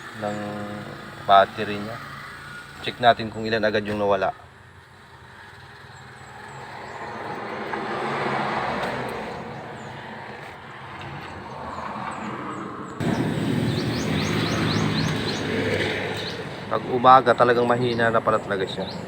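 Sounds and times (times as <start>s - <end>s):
low engine rumble: 0.0s - 19.0s
vehicle passing: 0.0s - 19.0s.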